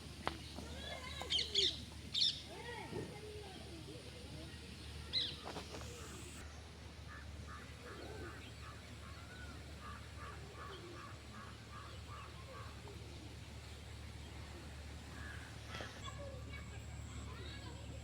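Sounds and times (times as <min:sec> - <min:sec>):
steady low hum: 0:03.5 - 0:18.0.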